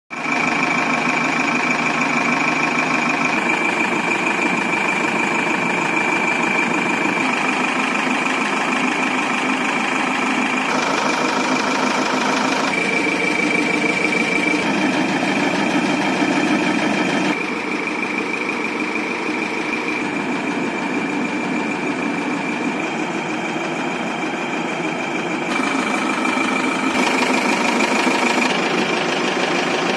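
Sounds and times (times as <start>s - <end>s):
diesel truck engine idling: 0.1s - 29.9s.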